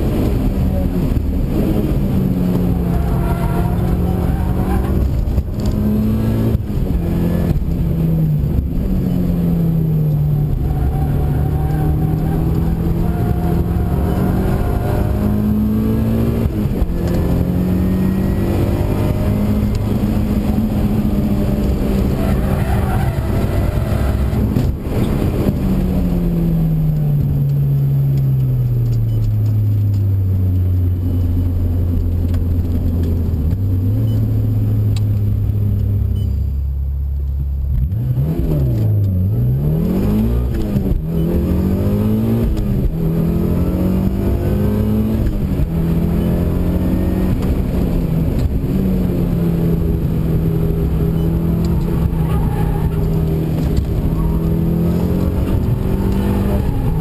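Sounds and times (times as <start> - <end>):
car engine revving: 0.0 - 28.2, 37.7 - 57.0.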